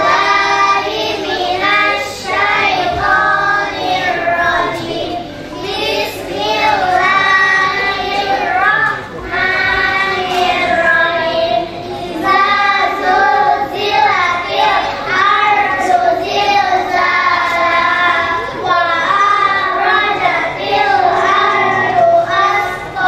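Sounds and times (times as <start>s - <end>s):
children singing: 0.0s - 23.0s.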